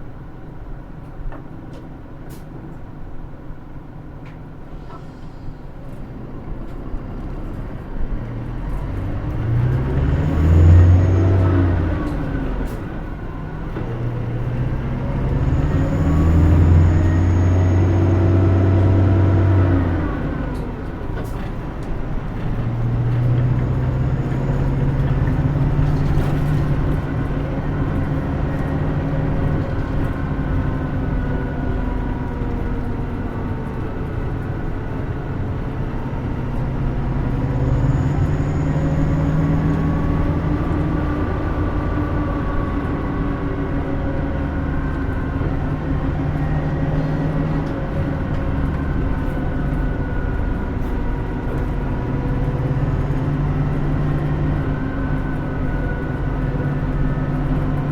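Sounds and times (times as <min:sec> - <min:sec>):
bus diesel engine: 0:00.0 - 0:57.9
road and tyre noise: 0:00.0 - 0:57.9.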